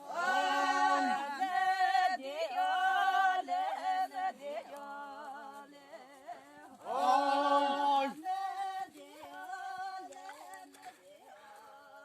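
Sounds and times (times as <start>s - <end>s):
unaccompanied voices singing: 0.0s - 12.0s.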